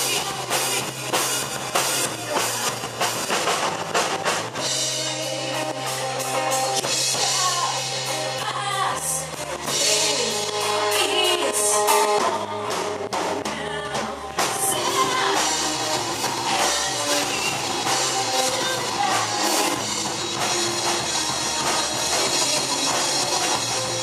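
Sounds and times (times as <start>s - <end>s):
person singing: 0.0s - 3.3s, 4.6s - 24.0s
drums: 0.0s - 24.0s
guitar: 0.0s - 24.0s
rock band playing: 0.0s - 24.0s.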